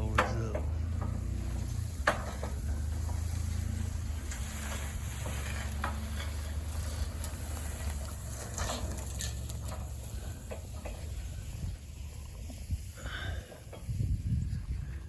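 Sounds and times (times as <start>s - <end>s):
truck engine humming: 0.0s - 14.9s.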